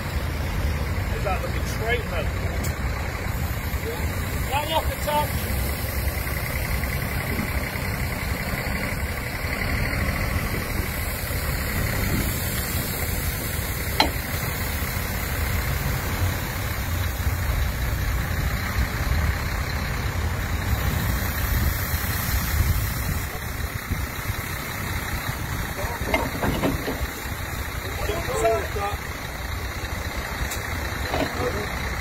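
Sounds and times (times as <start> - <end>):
lorry engine idling: 0.0 - 32.0.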